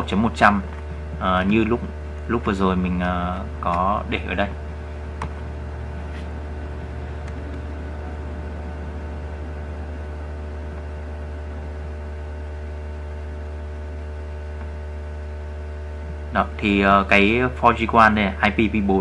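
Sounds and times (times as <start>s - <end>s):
low electrical hum with hiss: 0.0s - 19.0s.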